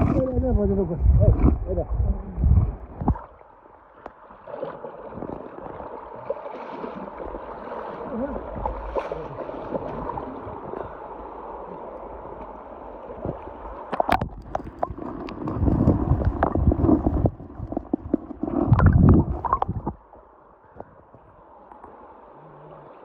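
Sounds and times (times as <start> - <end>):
water sloshing and gurgling: 0.0 - 23.0.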